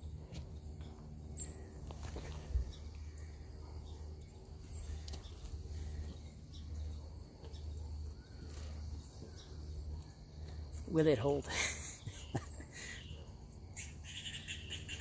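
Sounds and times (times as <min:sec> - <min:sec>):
faint birds or insects chirping: 0:00.0 - 0:15.0.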